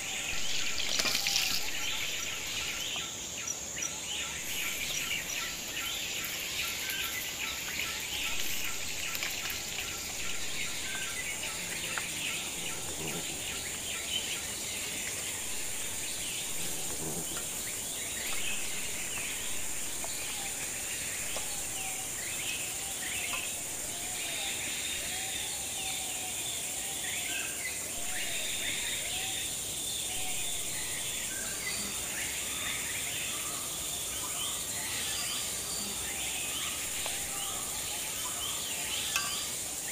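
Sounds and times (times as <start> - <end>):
birds chirping: 0.0 - 26.4, 27.2 - 39.9
high-pitched insect drone: 0.0 - 39.9.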